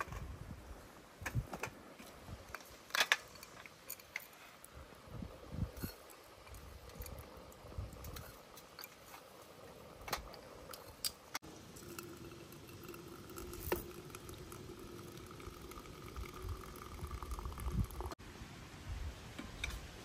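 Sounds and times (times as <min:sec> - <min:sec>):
liquid boiling in a pot: 0:01.9 - 0:18.2.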